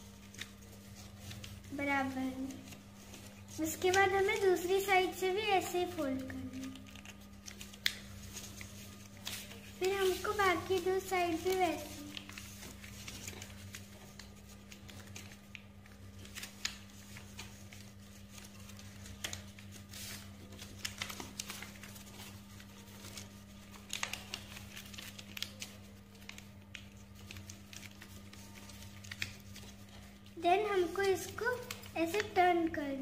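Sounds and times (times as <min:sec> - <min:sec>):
paper rustling: 0:00.0 - 0:33.0.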